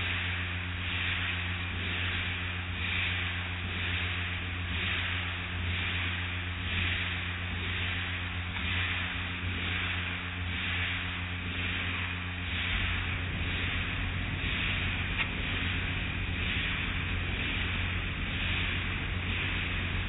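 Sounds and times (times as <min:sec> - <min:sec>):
deep rumble: 0:00.0 - 0:20.0
motor and pump hum: 0:00.0 - 0:20.0
water spraying hiss: 0:00.0 - 0:20.0.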